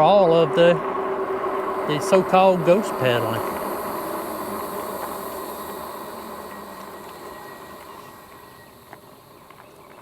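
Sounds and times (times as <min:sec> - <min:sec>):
e-bike riding on rough road: 0:00.0 - 0:10.0.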